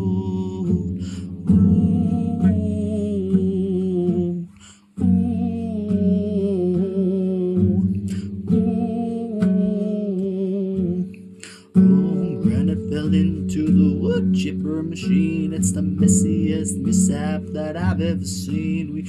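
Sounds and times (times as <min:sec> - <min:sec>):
wordless hum-like melody: 0:00.0 - 0:11.2, 0:11.8 - 0:19.0
guitar accompaniment: 0:00.0 - 0:19.0.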